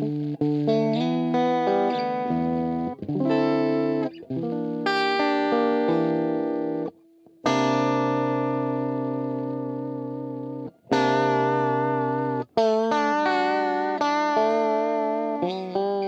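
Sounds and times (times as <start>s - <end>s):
overdriven electric guitar chords: 0.0s - 16.0s.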